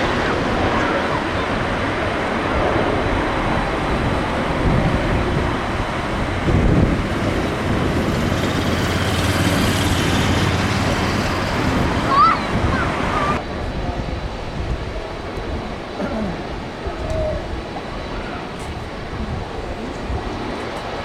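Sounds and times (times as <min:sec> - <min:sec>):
jet engines rumbling: 0:00.0 - 0:21.0
strong wind on microphone: 0:00.0 - 0:21.0.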